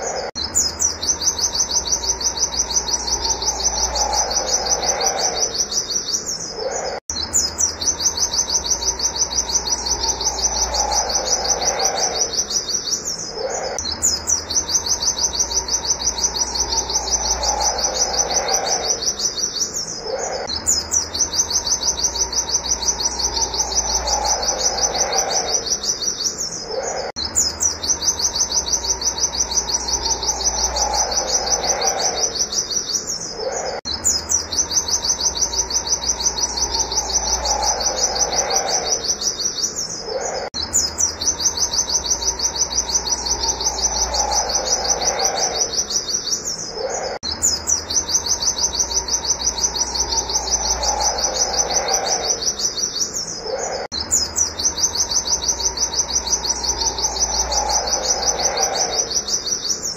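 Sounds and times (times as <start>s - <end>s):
bird singing rapid high notes: 0.0s - 59.9s.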